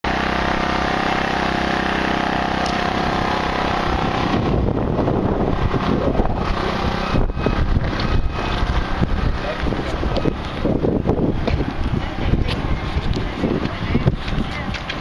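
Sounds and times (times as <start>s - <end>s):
engine running steadily: 0.0s - 15.0s
wind buffeting microphone: 2.9s - 15.0s.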